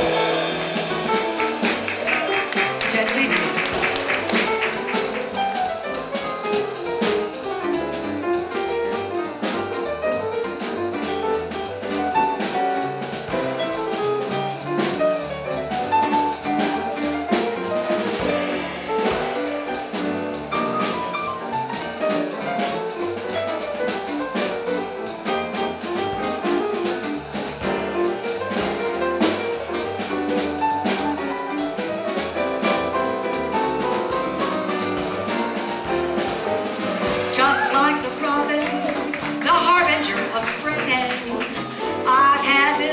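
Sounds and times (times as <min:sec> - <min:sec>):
drum kit with cymbals: 0:00.0 - 0:42.9
piano: 0:00.0 - 0:42.9
walking double bass: 0:00.0 - 0:42.9.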